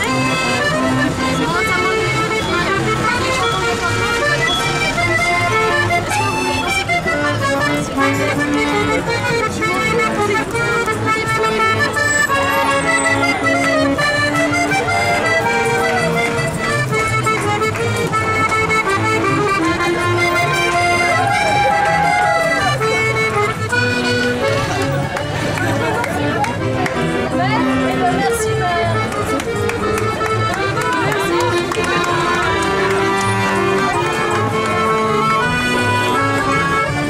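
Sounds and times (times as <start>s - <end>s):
piano accordion playing a tune: 0.0s - 37.0s.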